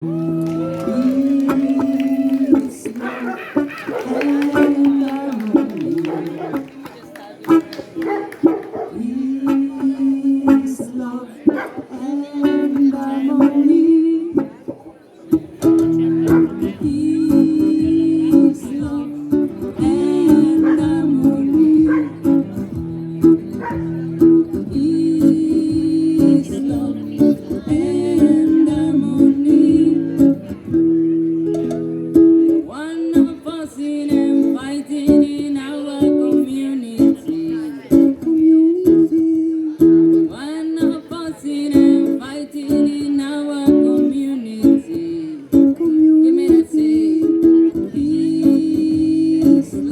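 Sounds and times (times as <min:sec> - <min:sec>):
person singing: 0:00.0 - 0:06.8, 0:08.8 - 0:14.8, 0:15.6 - 0:49.9
plucked strings: 0:07.4 - 0:49.9.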